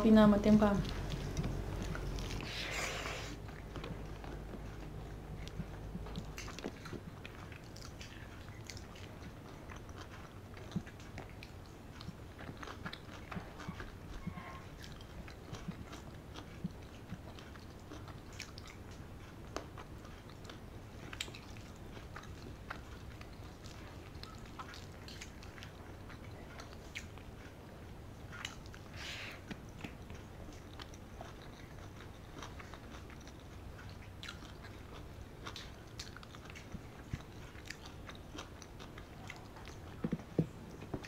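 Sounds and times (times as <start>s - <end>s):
person chewing with wet smacks: 0.0s - 41.0s
steady low hum: 0.0s - 41.0s.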